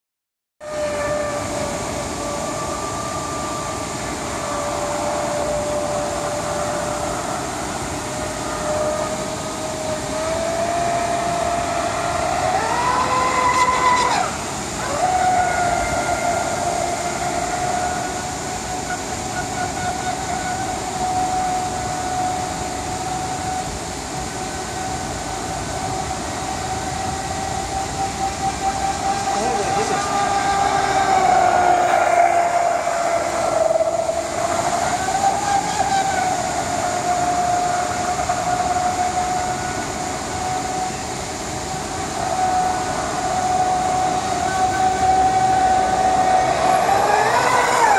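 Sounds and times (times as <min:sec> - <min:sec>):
rc boat motor whine: 0:00.6 - 0:47.9.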